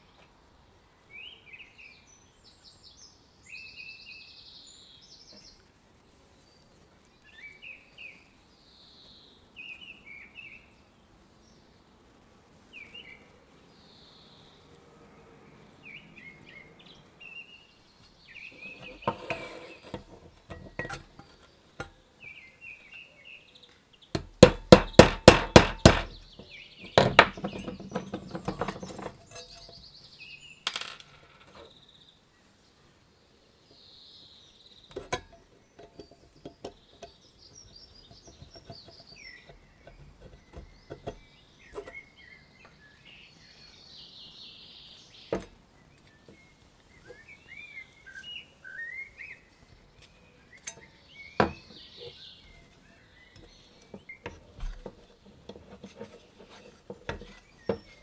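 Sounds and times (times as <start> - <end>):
birds chirping faintly: 0.0 - 58.0.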